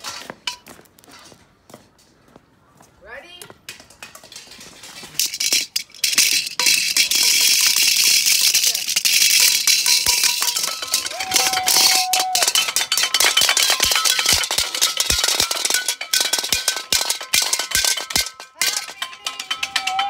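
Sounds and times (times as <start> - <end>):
metal colander clanging: 3.7 - 20.0.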